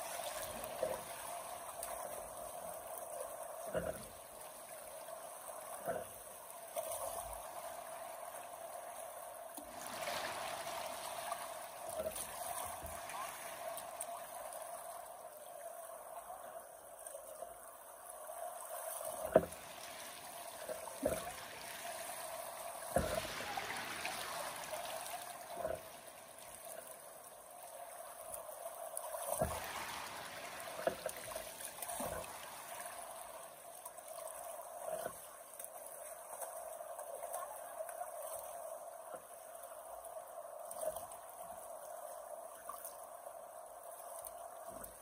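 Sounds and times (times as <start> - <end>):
river water trickling: 0.0 - 45.0.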